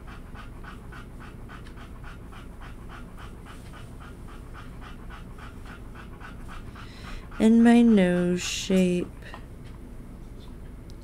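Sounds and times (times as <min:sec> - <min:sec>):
dog panting: 0:00.0 - 0:09.7.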